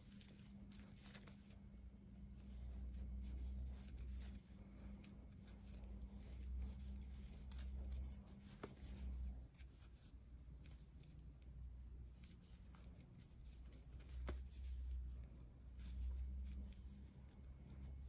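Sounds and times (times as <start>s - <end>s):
paper yarn rustling and crackling: 0.0s - 18.0s.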